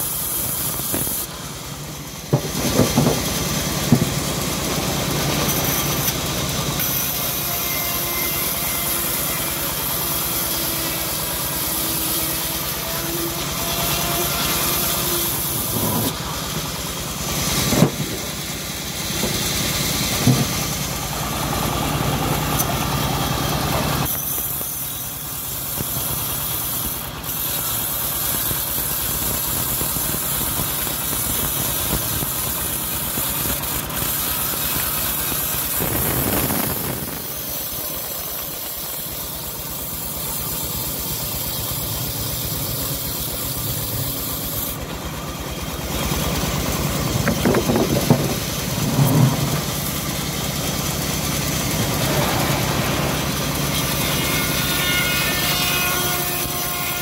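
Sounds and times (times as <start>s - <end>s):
blade sawing log with hiss: 0.0s - 57.0s
sawmill engine running: 0.0s - 57.0s.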